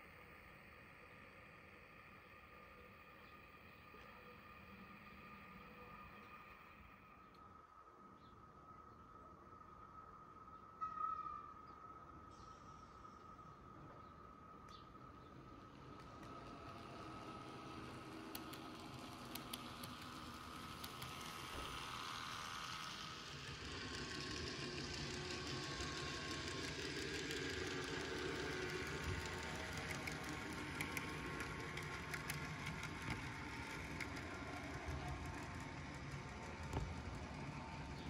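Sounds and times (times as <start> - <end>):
model train running on track: 0.0 - 7.8, 14.2 - 38.0.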